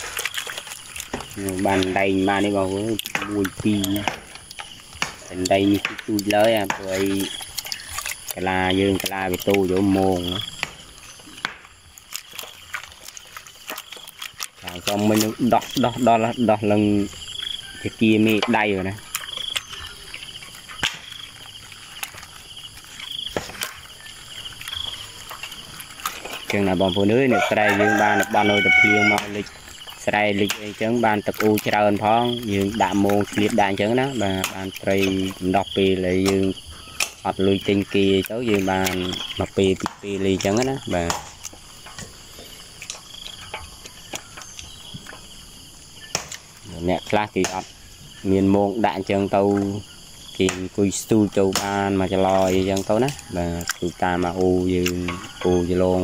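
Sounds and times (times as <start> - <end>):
insects chirping in trills: 0.0 - 56.0.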